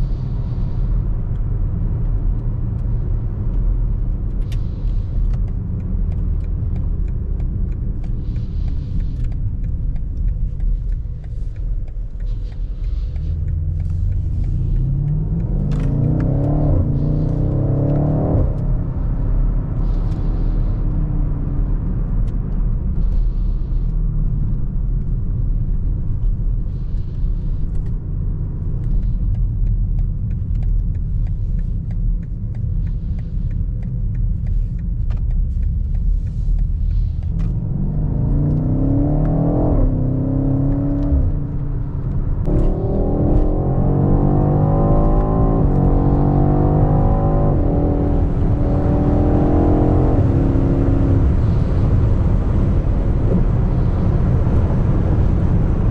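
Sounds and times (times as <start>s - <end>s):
car engine accelerating through gears: 0.0s - 55.9s
road rumble: 0.0s - 55.9s.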